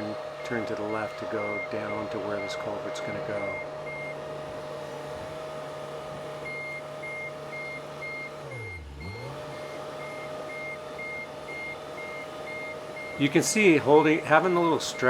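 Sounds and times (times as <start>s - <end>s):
travel alarm beeping: 0.0s - 4.6s, 6.4s - 15.0s
excavator engine running: 0.0s - 15.0s.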